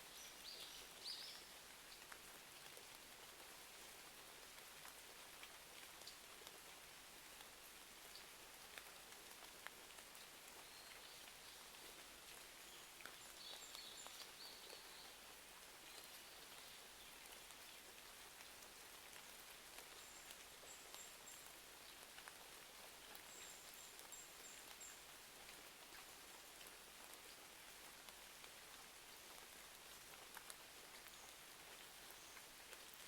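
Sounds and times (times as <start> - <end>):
rain hiss: 0.0 - 33.0.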